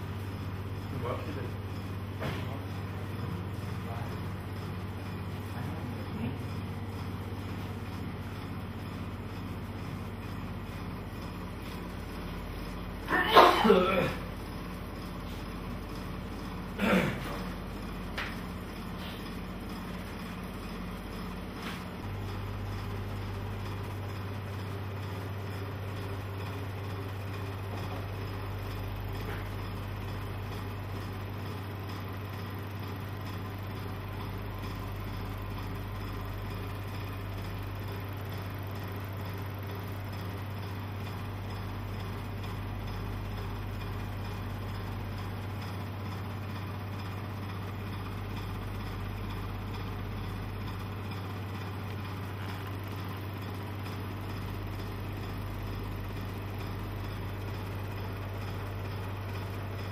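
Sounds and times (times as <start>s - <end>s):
low electric hum: 0.0s - 59.9s.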